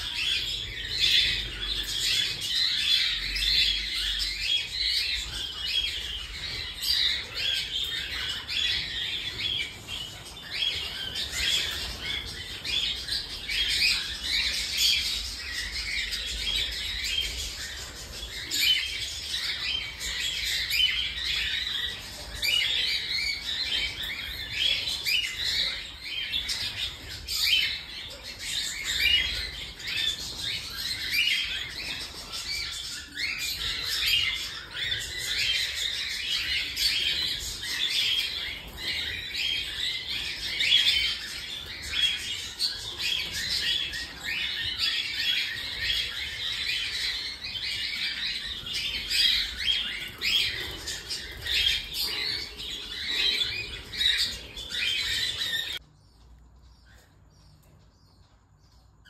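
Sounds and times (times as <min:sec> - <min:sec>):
cockatiels chirping: 0:00.0 - 0:55.8.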